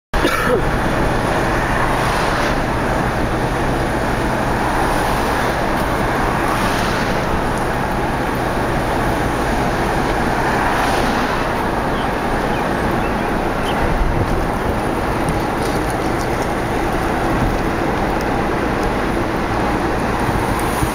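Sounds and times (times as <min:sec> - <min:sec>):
car engine and tyre noise: 0:00.1 - 0:20.9.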